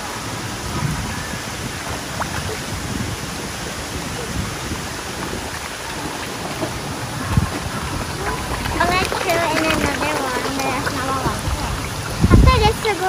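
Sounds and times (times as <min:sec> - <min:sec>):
pond water rushing: 0:00.0 - 0:13.0
wind rumble on microphone: 0:00.0 - 0:13.0.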